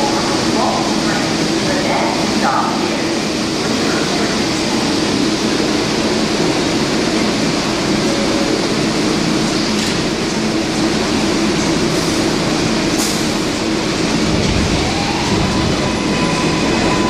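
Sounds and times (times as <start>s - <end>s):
subway train hum and hiss: 0.0s - 17.0s.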